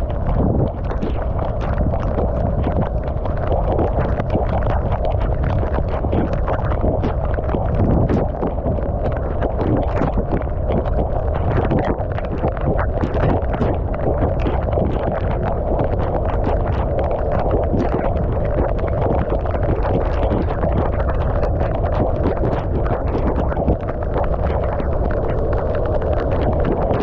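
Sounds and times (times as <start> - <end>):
small crackles: 0.0 - 27.0
wind rush over microphone: 0.0 - 27.0.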